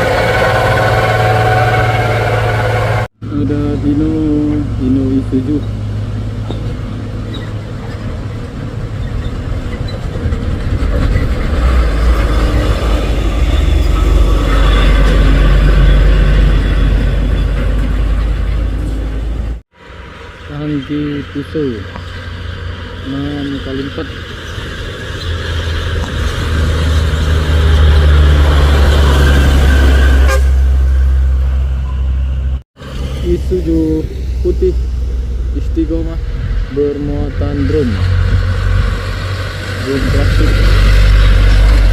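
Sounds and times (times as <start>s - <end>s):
truck diesel engine: 0.0s - 41.9s.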